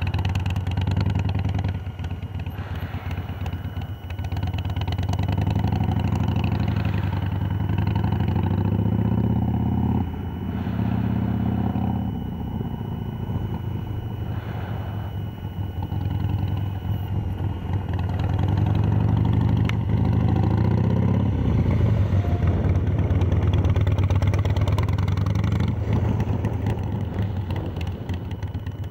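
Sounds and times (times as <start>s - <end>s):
motorcycle exhaust revving: 0.0s - 28.9s.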